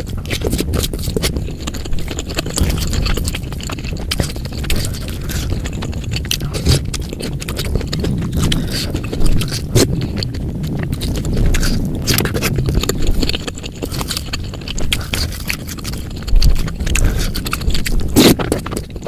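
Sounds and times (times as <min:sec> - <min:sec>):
chewing with clicks and smacks: 0:00.0 - 0:19.0.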